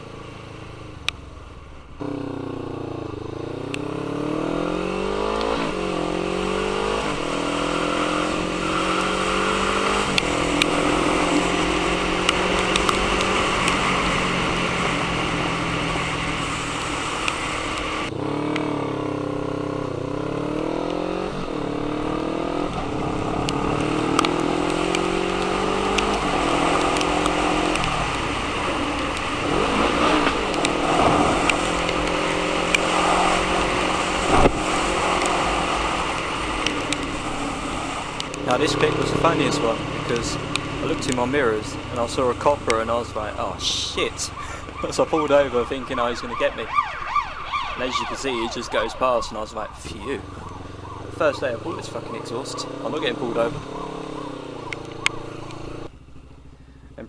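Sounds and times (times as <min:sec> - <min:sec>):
motorcycle exhaust revving: 0:00.0 - 0:56.8.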